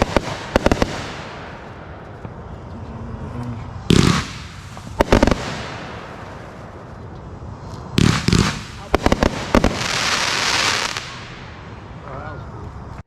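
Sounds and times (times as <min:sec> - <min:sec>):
firework bangs: 0:00.0 - 0:02.5, 0:03.7 - 0:12.1
firework crackling hiss: 0:00.0 - 0:12.1.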